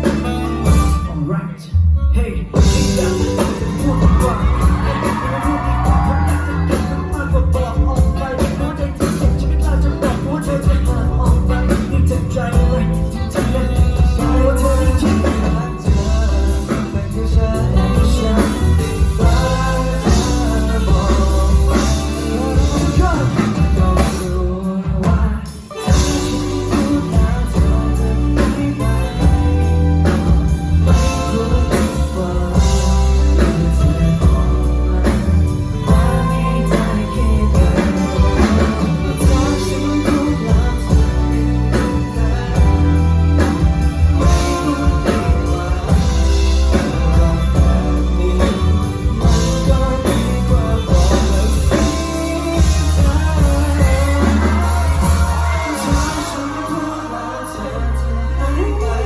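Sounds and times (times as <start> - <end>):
live pop band playing: 0.0 - 59.0
person singing: 0.0 - 59.0.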